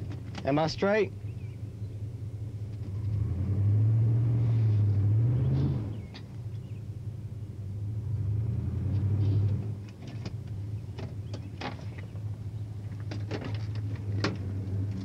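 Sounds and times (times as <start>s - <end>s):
car engine running low: 0.0s - 15.0s.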